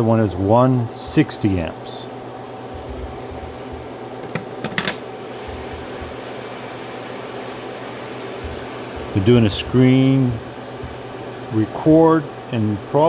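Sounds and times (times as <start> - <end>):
cooling fans running: 0.0 - 13.0
faint steady whine: 0.0 - 13.0.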